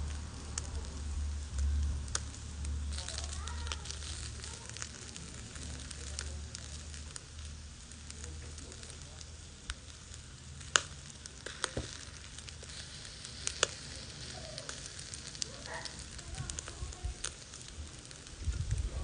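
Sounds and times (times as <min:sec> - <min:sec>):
charcoal crackling and popping: 0:00.0 - 0:19.0
chicken wings sizzling: 0:00.0 - 0:19.0.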